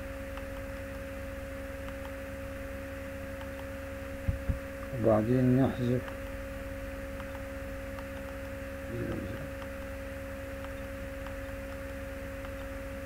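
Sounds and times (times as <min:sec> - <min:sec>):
constant high whine: 0:00.0 - 0:13.0
steady electrical hum: 0:00.0 - 0:13.0.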